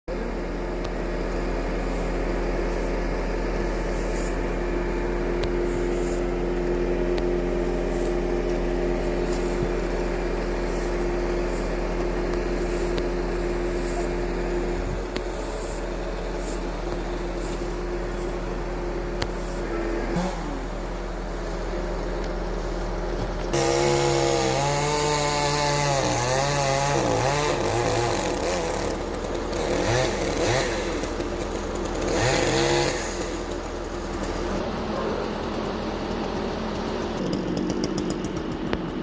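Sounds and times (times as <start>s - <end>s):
chainsaw cutting wood: 1.8s - 21.8s, 23.4s - 39.0s.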